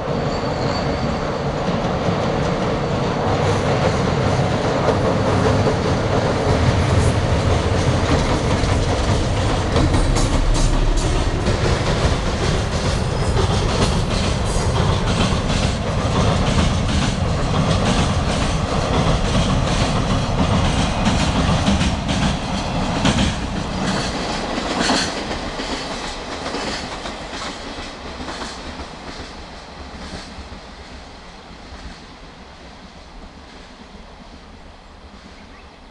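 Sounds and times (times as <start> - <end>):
heavy train rumble: 0.0 - 35.9
train wheels clattering over rail joints: 0.9 - 31.1.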